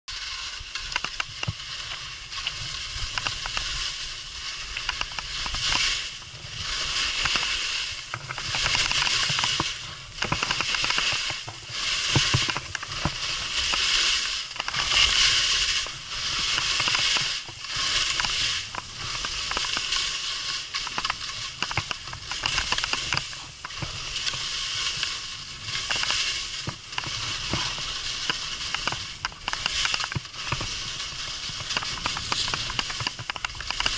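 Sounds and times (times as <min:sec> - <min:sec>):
skis scraping on snow: 0:00.1 - 0:33.9.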